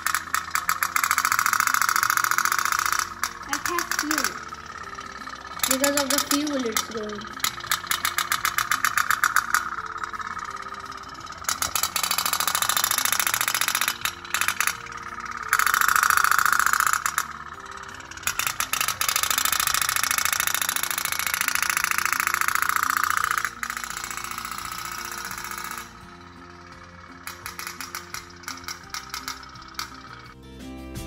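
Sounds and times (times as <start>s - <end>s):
toy steam boat putt-putt rattle: 0.0s - 30.4s
faint background music: 0.0s - 31.0s.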